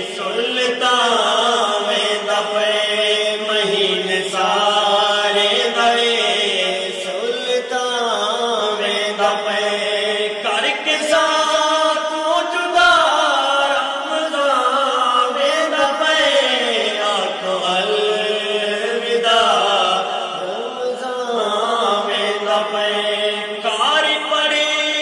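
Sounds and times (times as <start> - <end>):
men chanting: 0.0 - 25.0.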